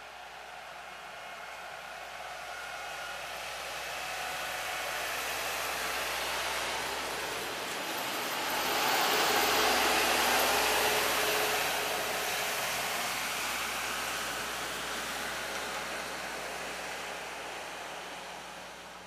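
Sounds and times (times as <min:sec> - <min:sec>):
rail machine rumbling past: 0:00.1 - 0:19.0.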